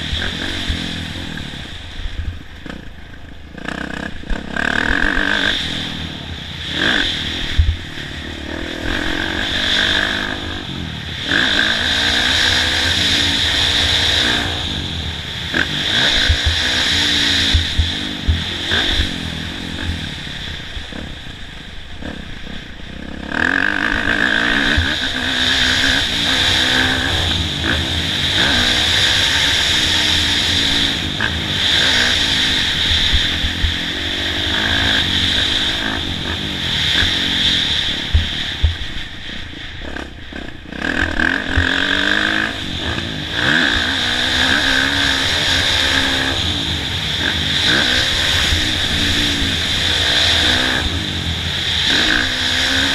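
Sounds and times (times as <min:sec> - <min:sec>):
motocross bike engine revving: 0:00.0 - 0:52.9.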